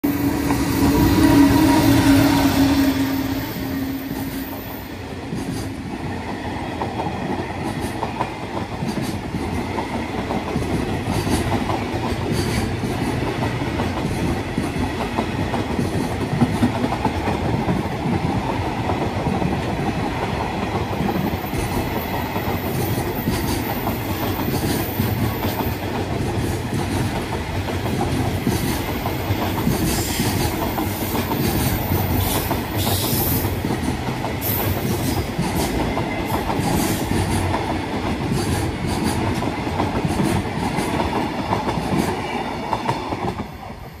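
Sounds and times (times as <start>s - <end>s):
train wagons rumbling on rails: 0.0s - 44.0s.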